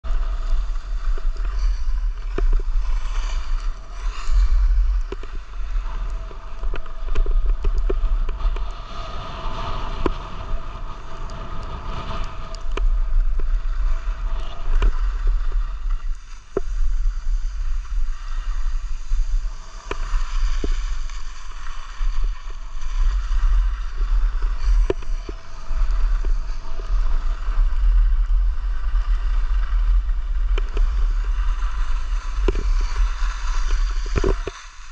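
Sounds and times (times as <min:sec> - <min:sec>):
wind buffeting microphone: 0:00.0 - 0:34.9
skis sliding on packed snow: 0:00.1 - 0:34.9.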